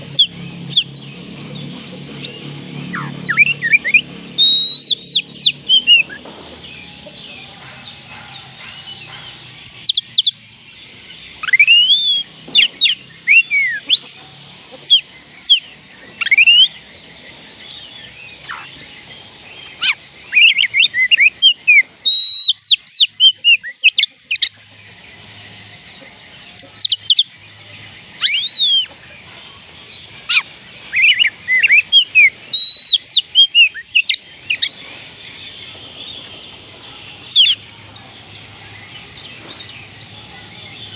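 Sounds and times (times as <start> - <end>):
bird singing whistled notes: 0.0 - 24.6, 25.4 - 29.1, 30.2 - 40.9.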